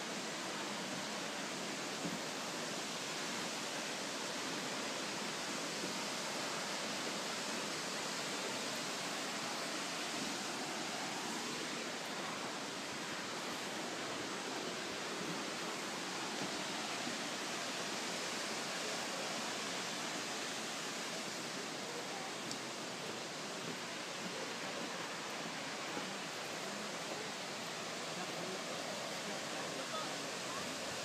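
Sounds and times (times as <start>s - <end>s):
waterfall roaring: 0.0s - 31.0s.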